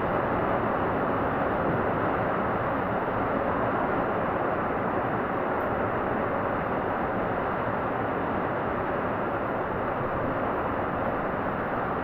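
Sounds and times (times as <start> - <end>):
heavy rain on a roof: 0.0 - 12.0.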